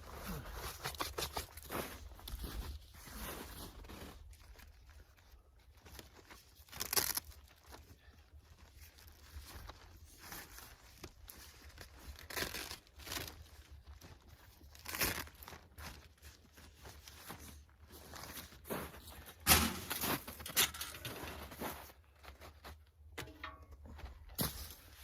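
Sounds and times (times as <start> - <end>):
tent fabric rustling and crinkling: 0.0 - 22.6.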